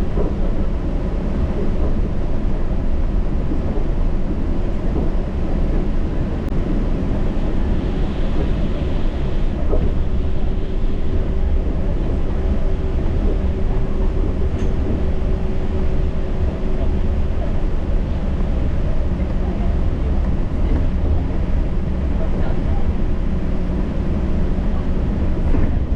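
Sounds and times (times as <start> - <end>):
train running rumble: 0.0 - 25.9.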